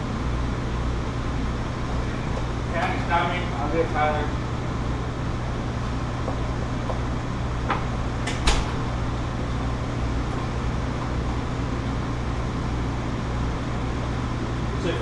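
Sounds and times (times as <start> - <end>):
exhaust hood and fans humming: 0.0 - 15.0.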